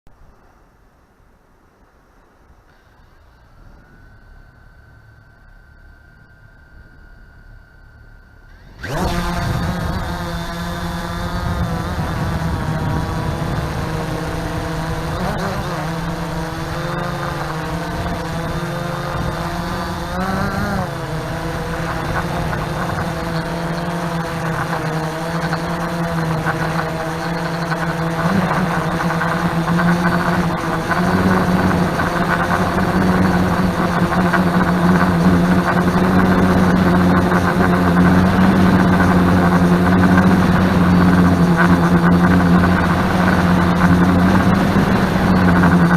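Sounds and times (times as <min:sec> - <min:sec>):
drone propellers buzzing: 0:02.6 - 0:45.9.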